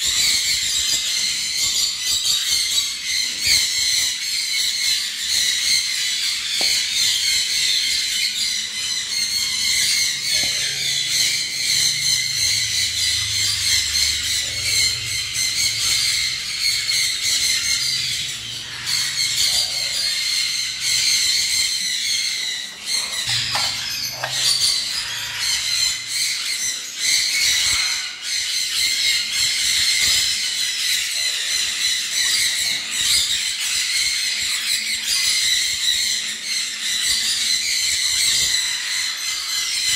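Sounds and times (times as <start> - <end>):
caged birds chattering: 0.0 - 39.9.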